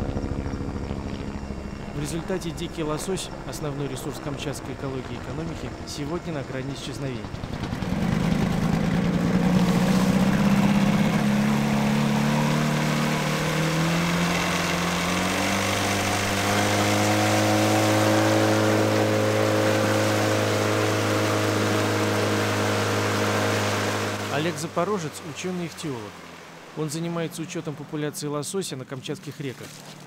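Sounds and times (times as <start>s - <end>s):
outboard motor running: 3.3s - 28.0s.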